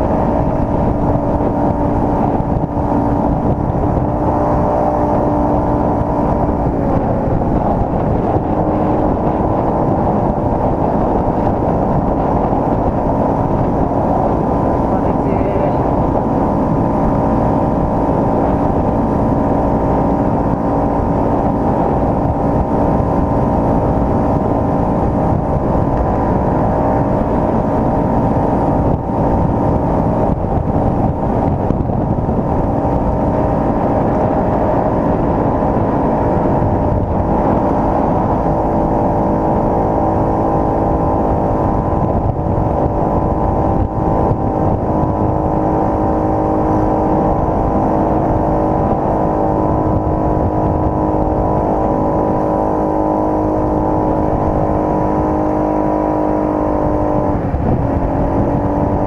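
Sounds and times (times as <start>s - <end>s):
road noise: 0.0s - 59.0s
scooter engine running: 0.0s - 59.0s
wind noise: 0.0s - 59.0s.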